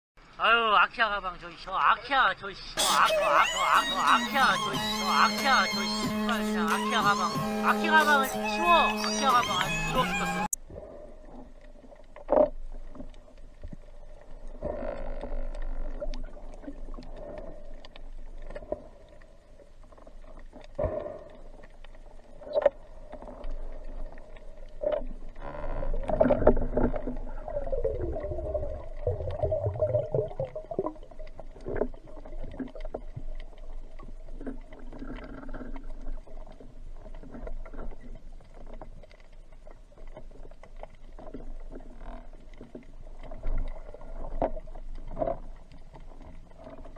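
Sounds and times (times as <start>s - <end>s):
muffled underwater water noise: 0.2s - 46.9s
deep underwater rumbling: 3.2s - 46.9s.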